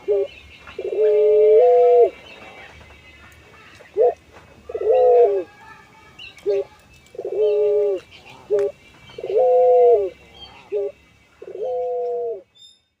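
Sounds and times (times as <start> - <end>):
dove cooing: 0.0 - 2.7, 3.9 - 5.8, 6.4 - 12.5.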